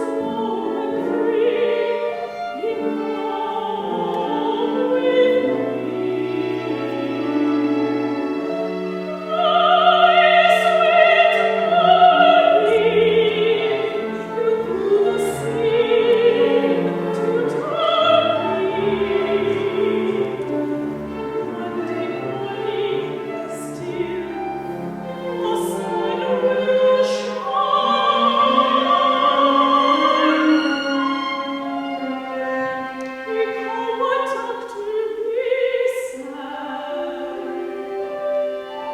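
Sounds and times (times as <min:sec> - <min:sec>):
instrumental accompaniment: 0:00.0 - 0:38.9
operatic singing: 0:00.0 - 0:38.9.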